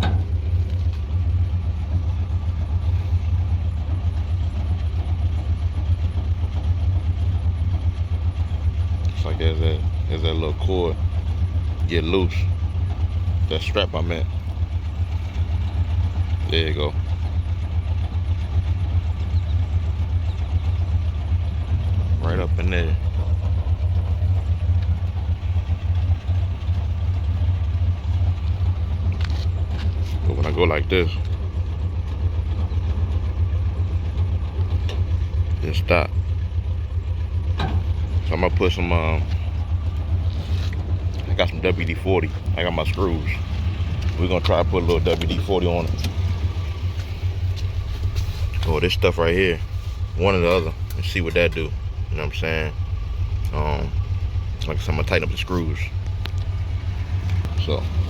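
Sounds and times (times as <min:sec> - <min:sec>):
pickup truck engine idling: 0:00.0 - 0:58.0.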